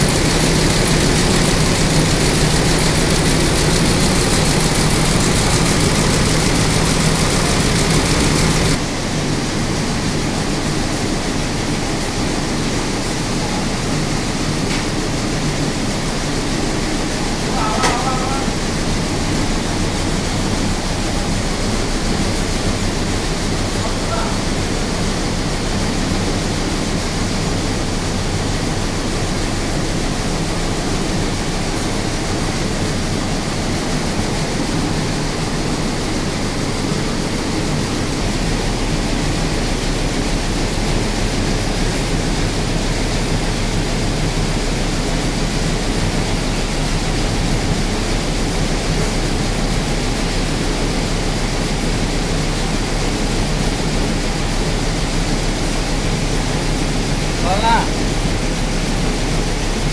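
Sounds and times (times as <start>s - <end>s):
embroidery machine mechanical din: 0.0s - 9.2s, 10.2s - 59.9s.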